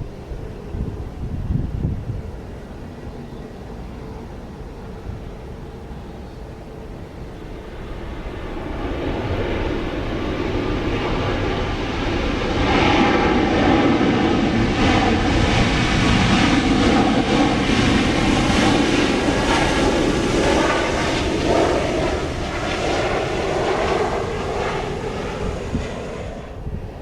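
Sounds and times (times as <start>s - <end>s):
airliner engines passing: 0.0s - 27.0s.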